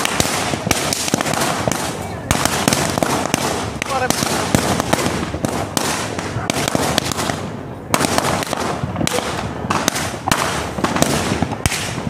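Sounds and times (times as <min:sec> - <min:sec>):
firecrackers cracking: 0:00.0 - 0:12.0.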